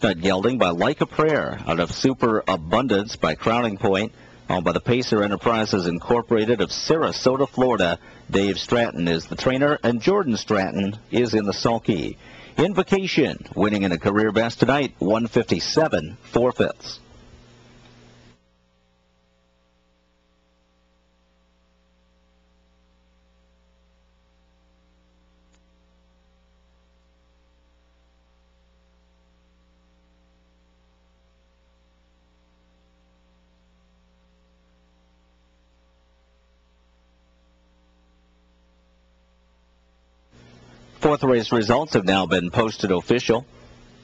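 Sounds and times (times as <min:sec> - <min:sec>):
faint mains hum: 0:00.0 - 0:44.0.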